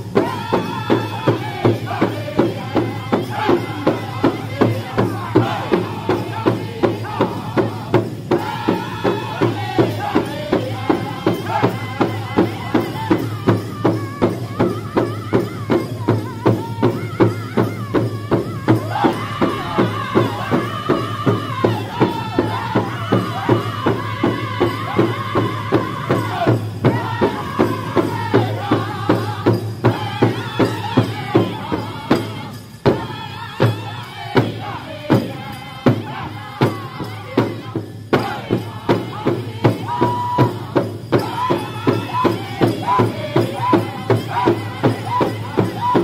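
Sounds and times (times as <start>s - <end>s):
group singing high-pitched: 0.0s - 46.0s
large drum beating: 0.0s - 46.0s.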